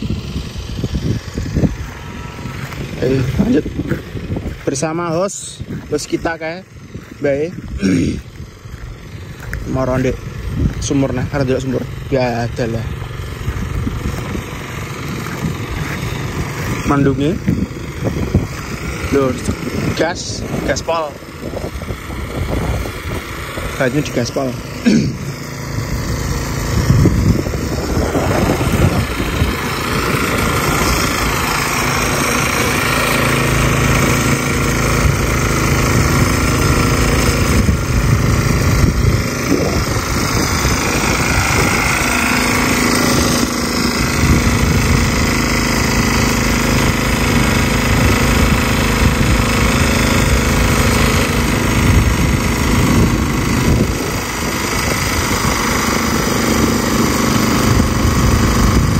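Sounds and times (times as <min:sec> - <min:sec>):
engine-driven pump running: 0:00.0 - 0:58.9.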